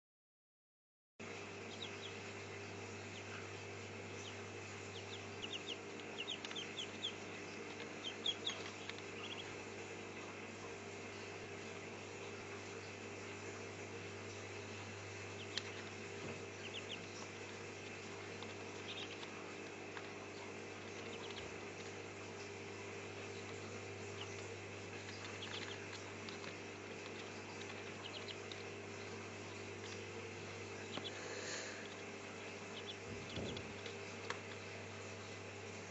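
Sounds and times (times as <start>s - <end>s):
ducklings peeping: 1.2s - 35.9s
steady low hum: 1.2s - 35.9s.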